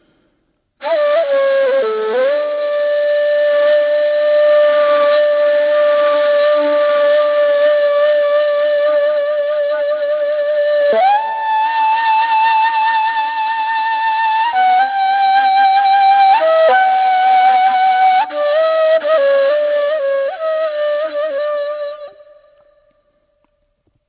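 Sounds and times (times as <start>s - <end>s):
flute playing long note: 0.8s - 23.0s.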